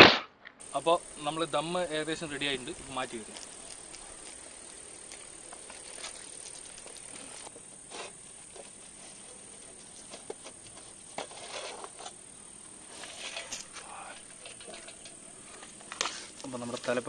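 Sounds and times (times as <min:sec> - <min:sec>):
crickets chirring: 0:00.6 - 0:17.0.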